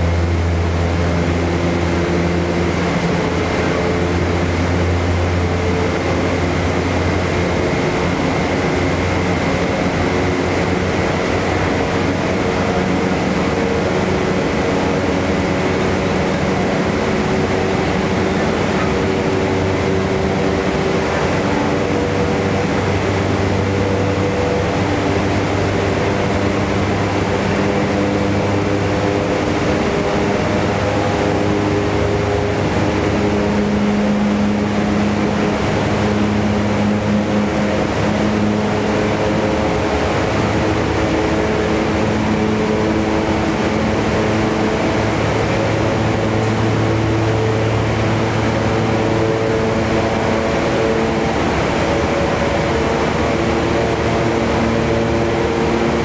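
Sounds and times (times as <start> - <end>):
fan roaring: 0.0 - 56.0
low humming tones: 0.0 - 56.0
rushing spray and waves: 0.0 - 56.0.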